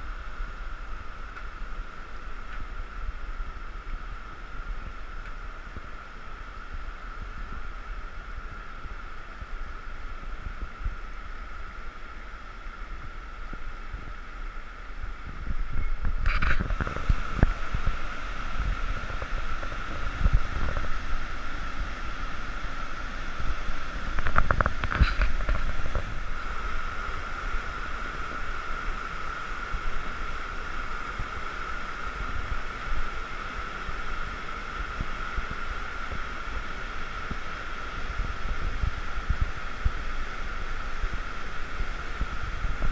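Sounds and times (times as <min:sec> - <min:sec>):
whitewater rushing through rapids: 0:00.0 - 0:42.9.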